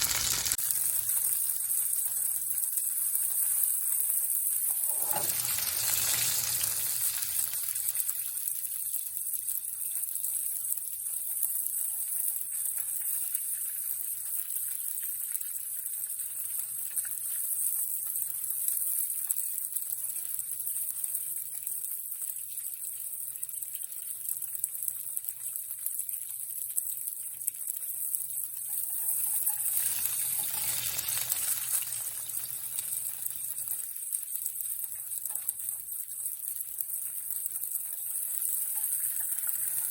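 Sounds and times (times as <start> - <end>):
chicken sizzling in a frying pan: 0.0 - 39.9.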